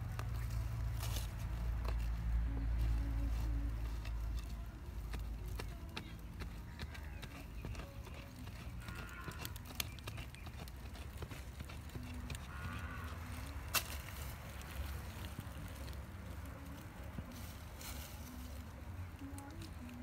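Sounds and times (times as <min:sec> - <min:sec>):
hand tool digging stony soil: 0:00.0 - 0:18.8
loose dirt rustling: 0:00.0 - 0:20.0.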